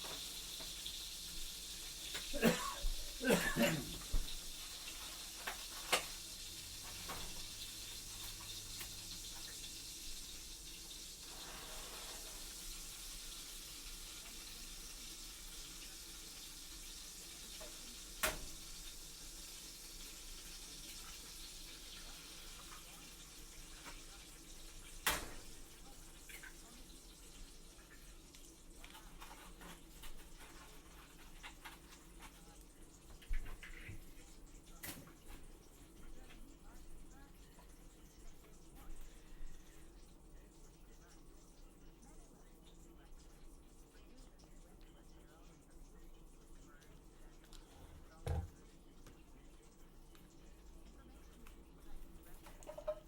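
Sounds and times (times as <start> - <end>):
food sizzling in a pan: 0.0 - 47.3, 49.3 - 53.0.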